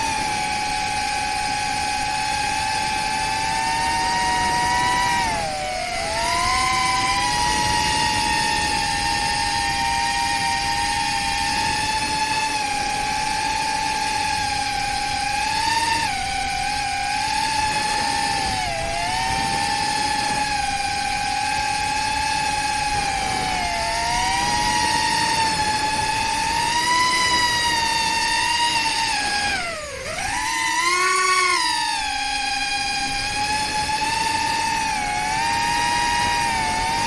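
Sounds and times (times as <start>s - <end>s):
drone propellers whining: 0.0s - 37.0s.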